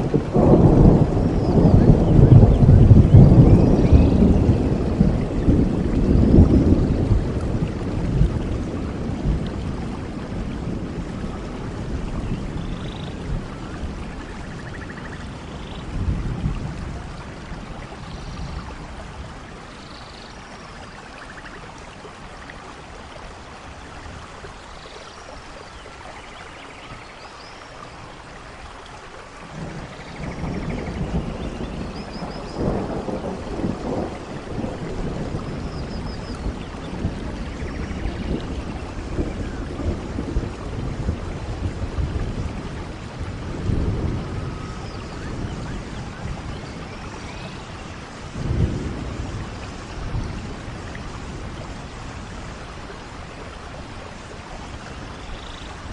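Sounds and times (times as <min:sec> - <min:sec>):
rolling thunder: 0:00.0 - 0:19.9, 0:29.4 - 0:55.9
steady rain: 0:00.0 - 0:55.9.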